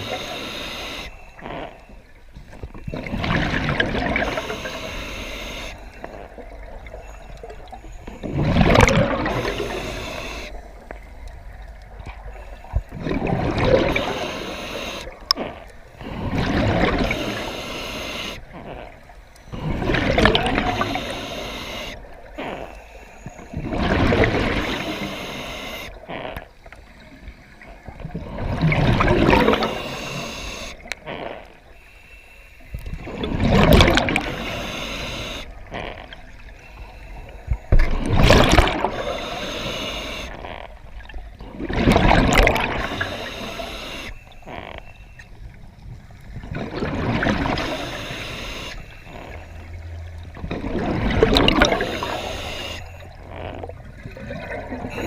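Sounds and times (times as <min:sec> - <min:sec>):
exhaled bubbles gurgling: 0:00.0 - 0:31.6, 0:32.8 - 0:44.8, 0:45.4 - 0:55.0
diver breathing through regulator: 0:02.9 - 0:10.7, 0:12.2 - 0:27.0, 0:28.2 - 0:40.6, 0:41.5 - 0:45.2, 0:47.2 - 0:49.7, 0:51.2 - 0:55.0.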